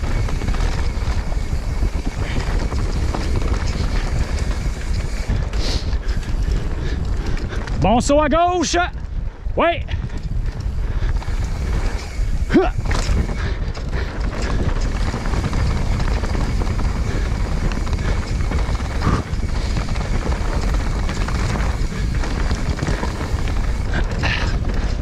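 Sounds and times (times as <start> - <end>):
bike rattling over bumps: 0.0 - 25.0
bike tyre noise: 0.0 - 25.0
wind on camera microphone: 0.0 - 25.0.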